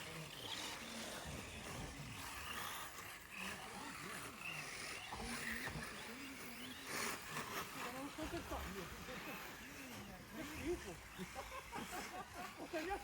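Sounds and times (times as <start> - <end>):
rc cars whining: 0.0 - 13.0.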